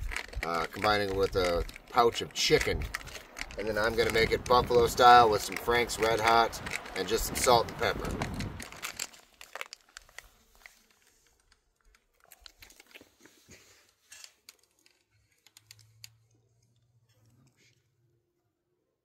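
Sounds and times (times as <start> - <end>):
small clicks: 0.0 - 13.2, 14.1 - 17.8
foil pouches crinkling: 0.0 - 16.8.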